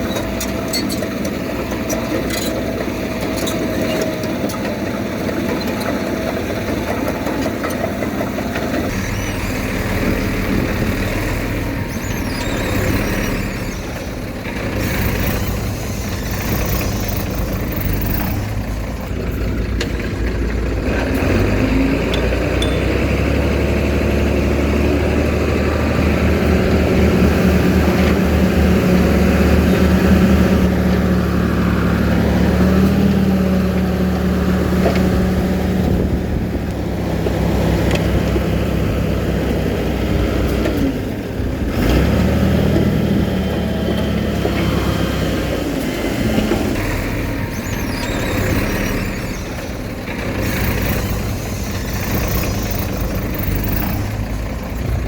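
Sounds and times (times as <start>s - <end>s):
heavy machinery diesel engine rumble: 0.0s - 55.0s.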